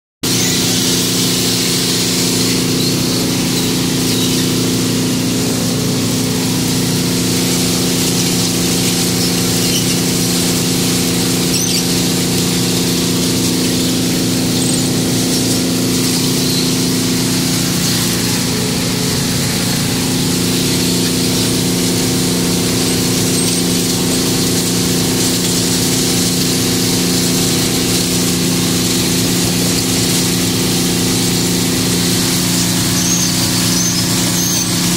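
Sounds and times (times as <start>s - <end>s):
engine and pump drone: 0.2s - 34.9s.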